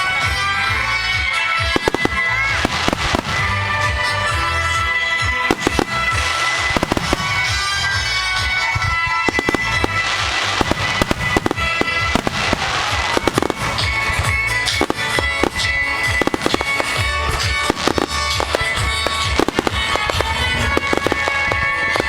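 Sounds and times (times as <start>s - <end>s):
fireworks bangs and crackling: 0.0s - 22.0s
music with sustained tones: 0.0s - 22.0s.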